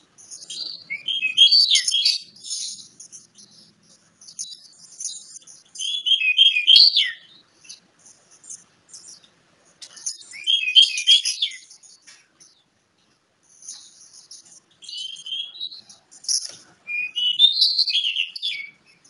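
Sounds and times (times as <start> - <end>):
bird warbling song: 0.0 - 12.7, 13.4 - 19.0.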